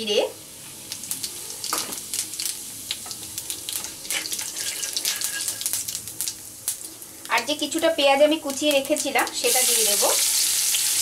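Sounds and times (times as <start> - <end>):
seeds sizzling in hot oil: 0.0 - 11.0.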